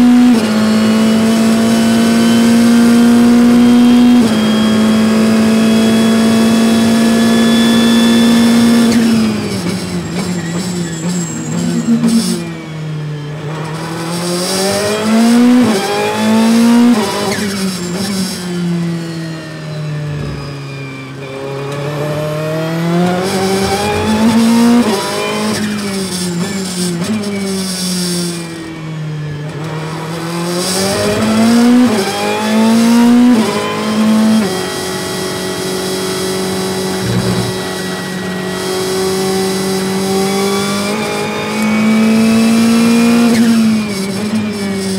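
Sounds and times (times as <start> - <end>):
race car engine revving and shifting: 0.0 - 44.9.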